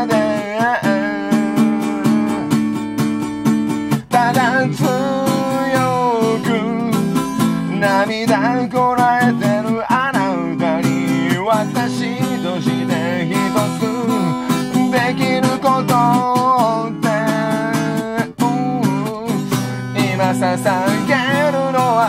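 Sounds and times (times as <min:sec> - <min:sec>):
strummed acoustic guitar: 0:00.0 - 0:22.0.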